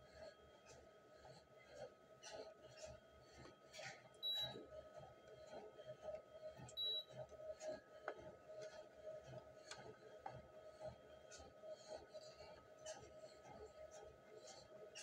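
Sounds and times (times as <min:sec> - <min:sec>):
treadmill motor hum: 0:00.0 - 0:15.0.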